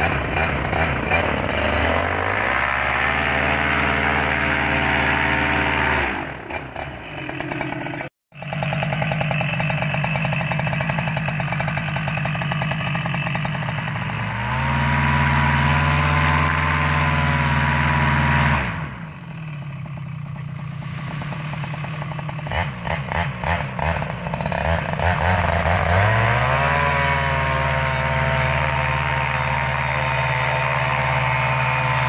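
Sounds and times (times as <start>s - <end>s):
paramotor engine and propeller: 0.0s - 32.0s.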